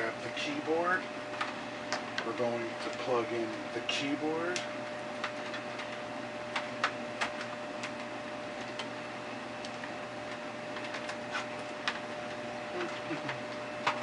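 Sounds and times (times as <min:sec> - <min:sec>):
computer humming: 0:00.0 - 0:14.0.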